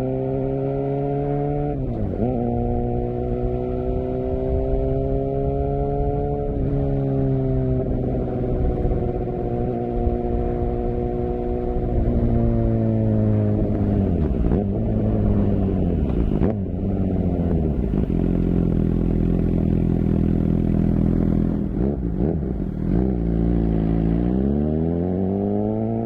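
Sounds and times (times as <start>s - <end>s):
motorcycle engine and exhaust: 0.0s - 26.0s.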